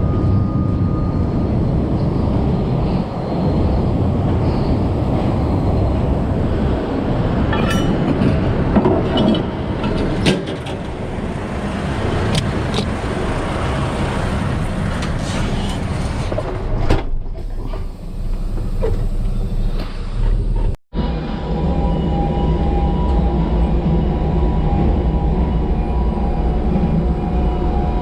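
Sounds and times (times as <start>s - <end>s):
truck engine and road rumble: 0.0s - 25.5s.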